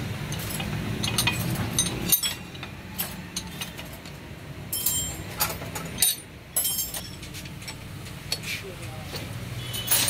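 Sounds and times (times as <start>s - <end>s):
metallic clicks and clinks: 0.3s - 8.5s.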